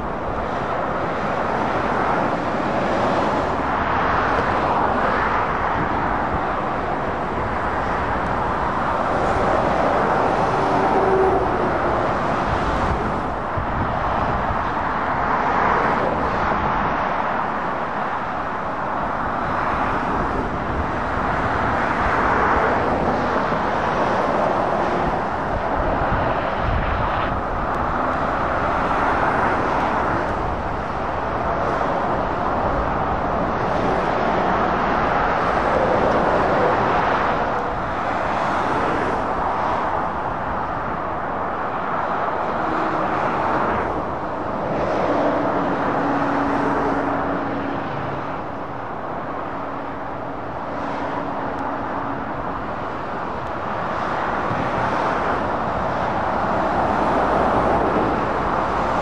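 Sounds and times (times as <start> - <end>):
lorries and cars driving past: 0.0 - 59.0.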